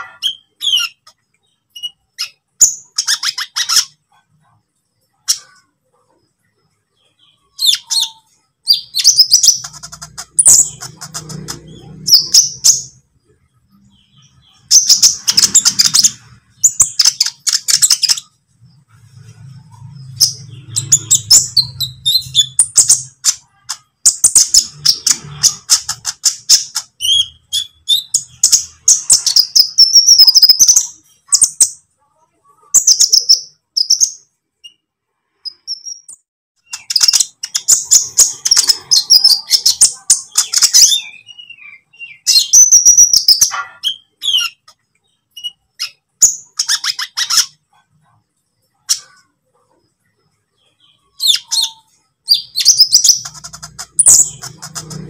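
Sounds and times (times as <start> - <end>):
sunbird chirps and trills: 0.0 - 55.0.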